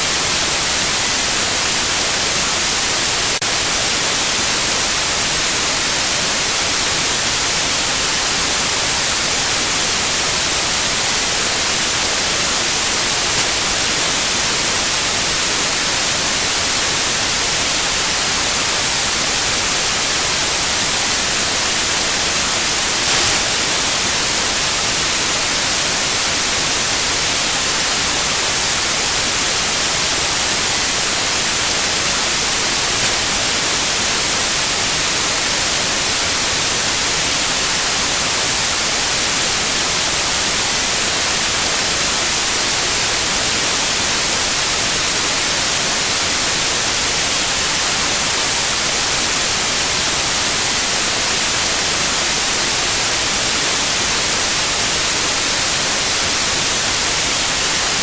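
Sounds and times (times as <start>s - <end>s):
high-pitched sine tone: 0.0s - 58.0s
white noise hiss: 0.0s - 58.0s.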